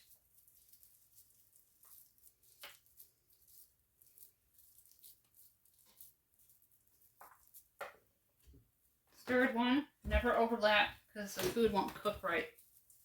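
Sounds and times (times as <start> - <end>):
hands patting food mixture: 0.0 - 13.0.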